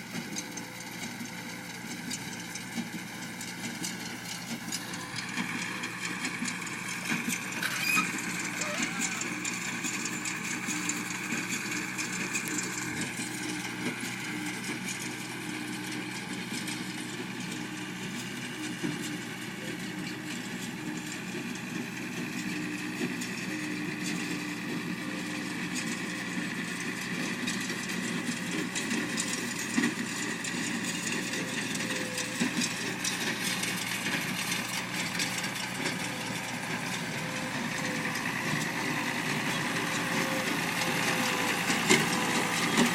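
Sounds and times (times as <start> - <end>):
hay baler clatter: 0.0 - 42.9
tractor engine running: 0.0 - 42.9.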